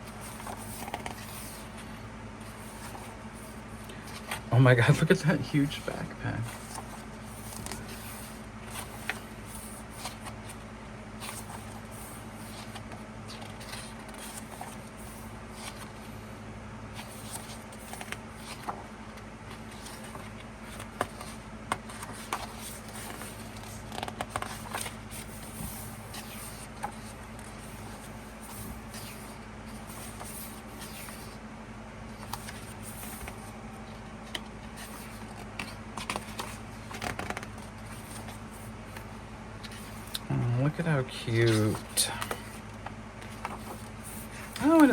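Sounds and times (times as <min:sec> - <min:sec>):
paper pages rustling: 0:00.0 - 0:10.6, 0:11.2 - 0:16.1, 0:16.9 - 0:31.4, 0:32.1 - 0:33.6, 0:34.2 - 0:40.2, 0:41.2 - 0:44.9
steady low hum: 0:00.0 - 0:44.9.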